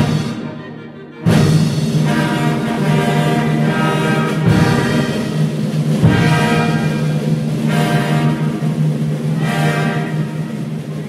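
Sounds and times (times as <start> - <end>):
orchestral music: 0.0 - 11.0.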